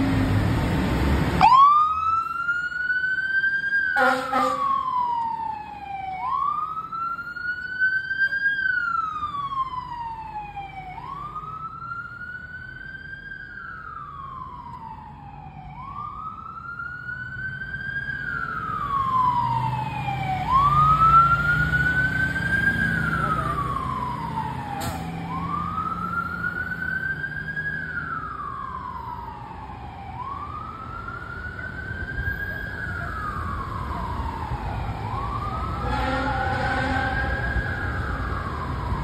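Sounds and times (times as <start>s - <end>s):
fire engine siren wailing: 0.0s - 39.0s.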